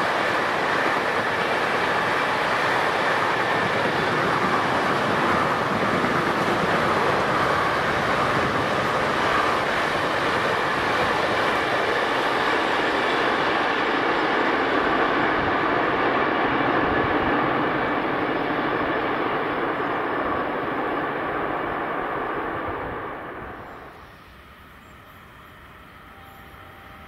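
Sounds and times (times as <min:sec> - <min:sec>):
train wheels rolling on rails: 0:00.0 - 0:27.0.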